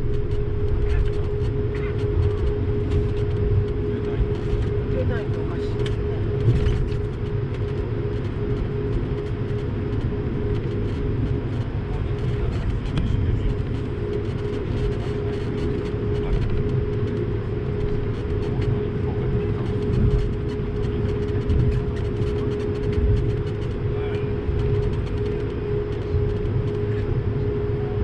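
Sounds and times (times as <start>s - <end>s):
airliner cabin engine rumble: 0.0s - 28.0s
constant mid-pitched hum: 0.0s - 28.0s.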